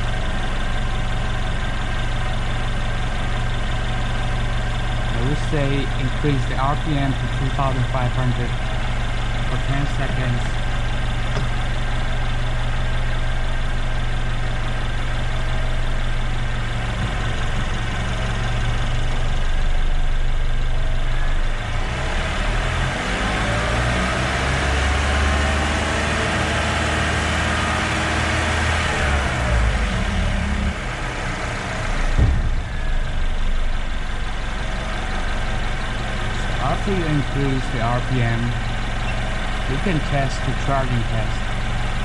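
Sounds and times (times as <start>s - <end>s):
car engine idling and revving: 0.0s - 42.0s.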